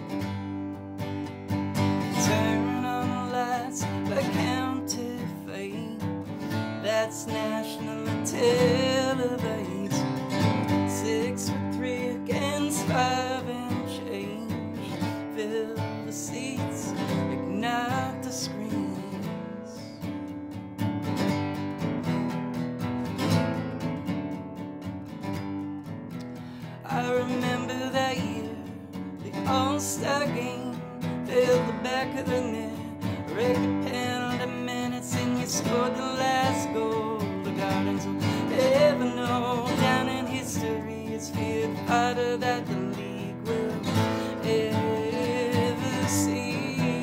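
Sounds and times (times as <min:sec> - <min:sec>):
acoustic guitar strumming: 0:00.0 - 0:47.0
man singing: 0:01.8 - 0:20.2, 0:26.6 - 0:47.0.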